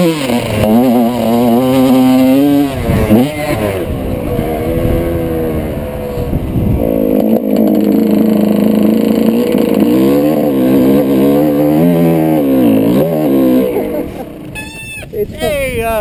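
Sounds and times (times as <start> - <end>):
two-stroke motocross bike revving: 0.0 - 15.2.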